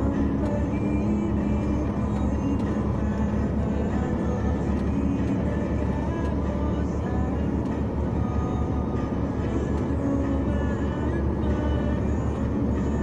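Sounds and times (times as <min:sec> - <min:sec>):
vehicle rumbling through floodwater: 0:00.0 - 0:13.0.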